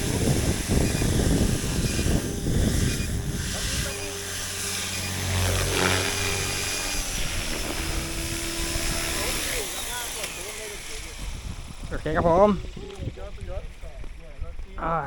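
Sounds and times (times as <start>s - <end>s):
radio-controlled helicopter rotor hum: 0.0s - 15.0s
wind buffeting microphone: 0.0s - 15.0s.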